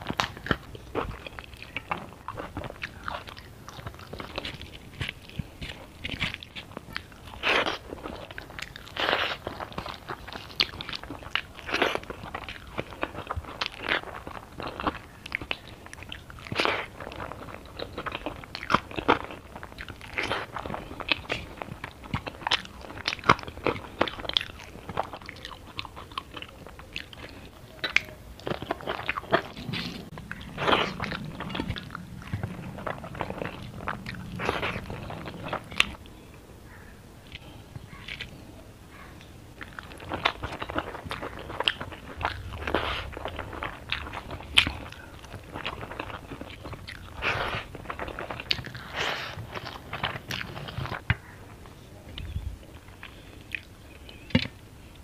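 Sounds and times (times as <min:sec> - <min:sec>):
crunching bites and chewing: 0:00.0 - 0:36.1, 0:39.0 - 0:51.4.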